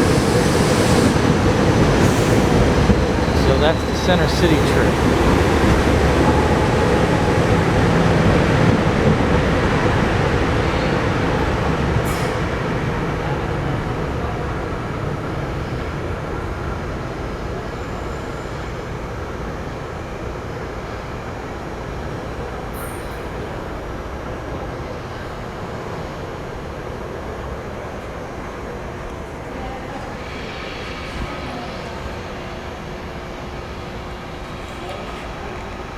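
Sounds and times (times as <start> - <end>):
electric train rumbling: 0.0 - 35.9.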